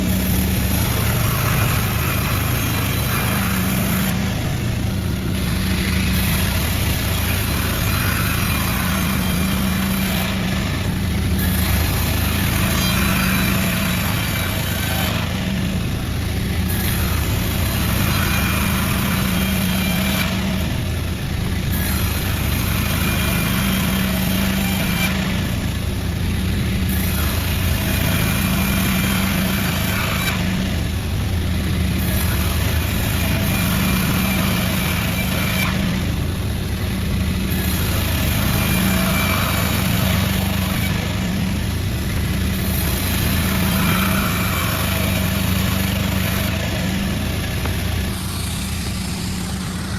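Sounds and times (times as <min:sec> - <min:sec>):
saw cutting hiss: 0:00.0 - 0:49.9
sawmill machinery drone: 0:00.0 - 0:49.9.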